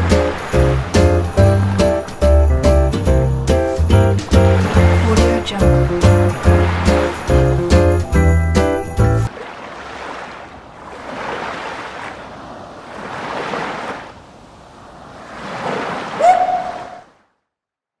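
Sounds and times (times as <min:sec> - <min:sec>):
ocean waves washing: 0:00.0 - 0:17.3.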